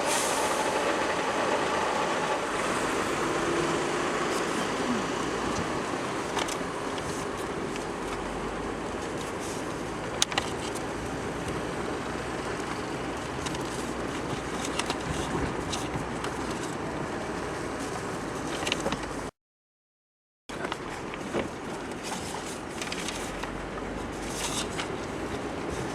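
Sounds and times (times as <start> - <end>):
car engine and tyre noise: 0.0 - 19.3, 20.5 - 25.9.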